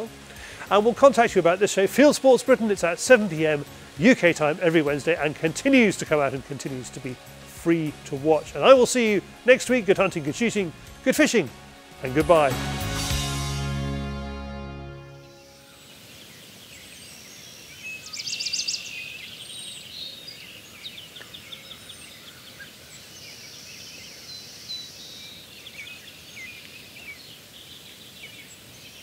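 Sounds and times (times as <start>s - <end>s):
songbirds chirping: 0.0s - 13.3s, 14.8s - 29.0s
steady outdoor hiss: 0.0s - 29.0s.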